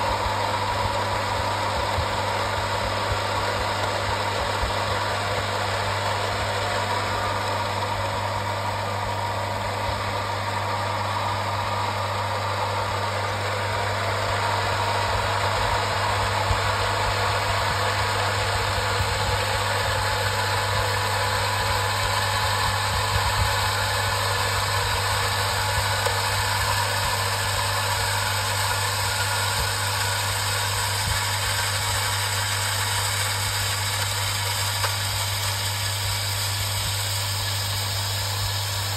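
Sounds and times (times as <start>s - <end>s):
electric water pump humming: 0.0s - 38.9s.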